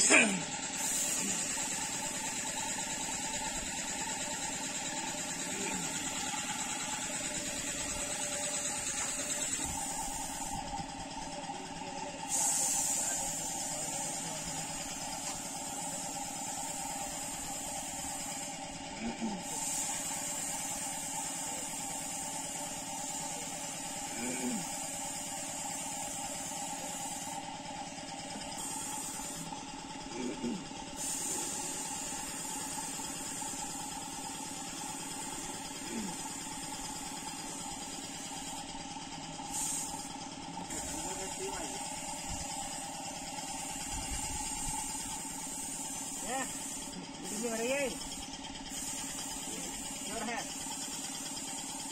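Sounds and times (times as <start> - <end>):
air motor humming: 0.0 - 51.9
spray gun hissing: 0.2 - 11.4, 12.1 - 29.8, 30.5 - 51.9.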